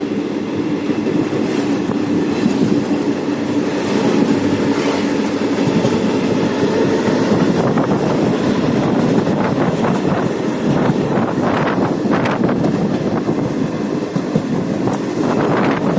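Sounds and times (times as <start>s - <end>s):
passenger train rumbling: 0.0s - 15.9s
wheels clicking over rail joints: 0.0s - 15.9s.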